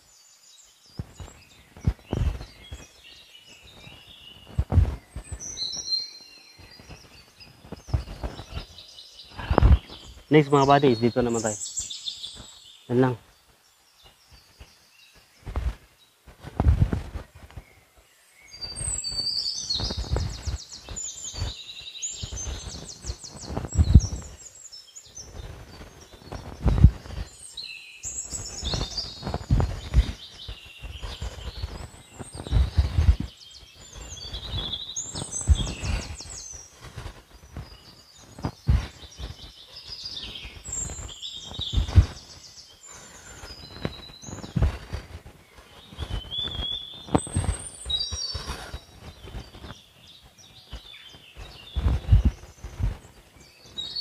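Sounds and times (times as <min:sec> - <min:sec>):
songbird singing trilled phrases: 0:00.0 - 0:16.2, 0:17.6 - 0:54.0.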